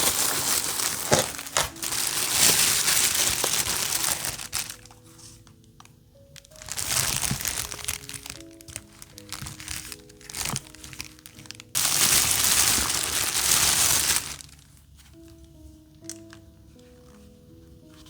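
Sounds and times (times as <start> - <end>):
craft materials crinkling and rustling: 0.0 - 18.0
soft background music: 0.0 - 18.0.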